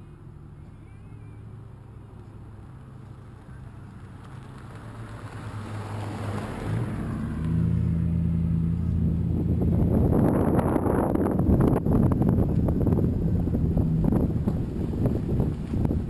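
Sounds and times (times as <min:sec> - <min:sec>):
car engine approaching: 0:00.0 - 0:16.0.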